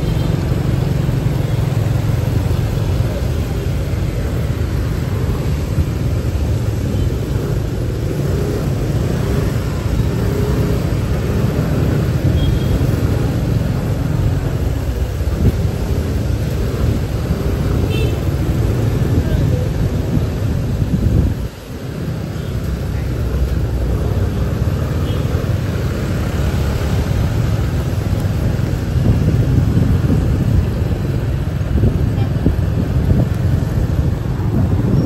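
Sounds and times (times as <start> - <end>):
road noise: 0.0 - 35.0.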